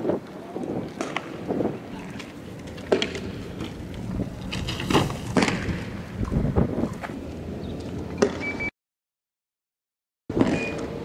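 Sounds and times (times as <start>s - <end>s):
street noise rumble: 0.0s - 8.7s, 10.3s - 11.0s.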